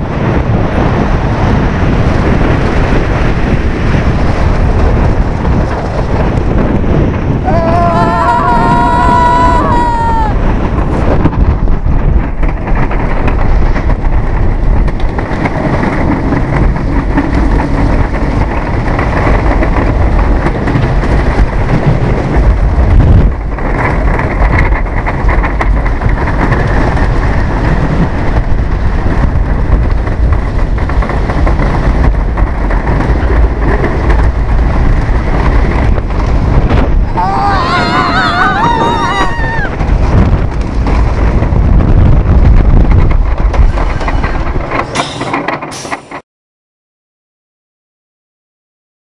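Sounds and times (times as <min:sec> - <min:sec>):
roller coaster rumbling on track: 0:00.0 - 0:46.2
wind rush on microphone: 0:00.0 - 0:46.2.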